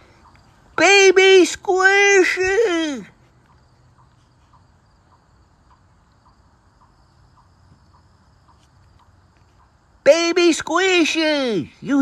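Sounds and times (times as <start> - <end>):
chipmunk chirping: 0.0 - 10.6.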